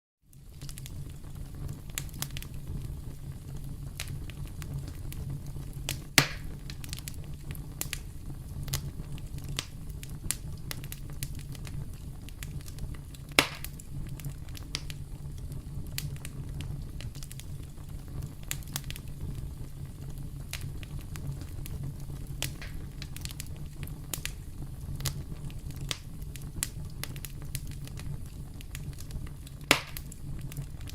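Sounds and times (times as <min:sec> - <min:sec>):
low rumble of burning wood: 0:00.2 - 0:30.9
campfire crackling: 0:00.3 - 0:30.9
loud sharp fire pops: 0:04.0 - 0:19.6, 0:20.2 - 0:30.9.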